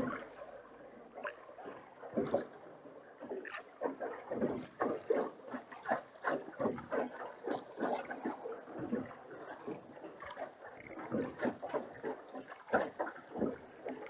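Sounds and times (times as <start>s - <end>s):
water splashing and lapping: 0.0s - 14.0s.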